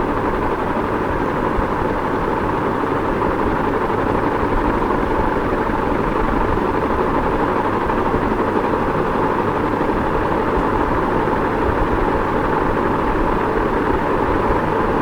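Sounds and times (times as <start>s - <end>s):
ceiling fan running: 0.0s - 15.0s.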